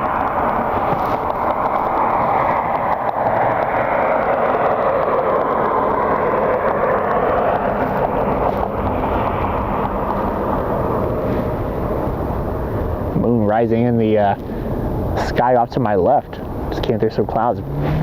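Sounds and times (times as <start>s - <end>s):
jet engines passing: 0.0s - 18.0s.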